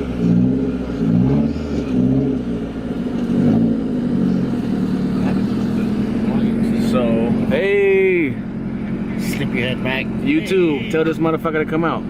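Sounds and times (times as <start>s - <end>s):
car engine revving while driving: 0.0s - 12.0s.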